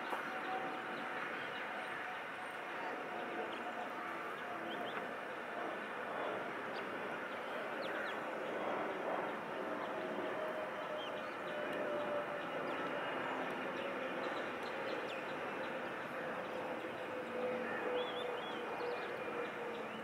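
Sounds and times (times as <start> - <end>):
distant jet engines taxiing: 0.0 - 20.0.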